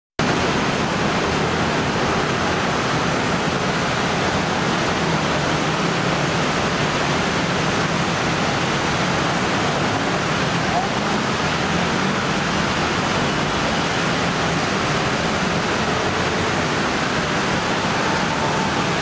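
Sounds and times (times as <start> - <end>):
many scooter engines passing: 0.2 - 19.0.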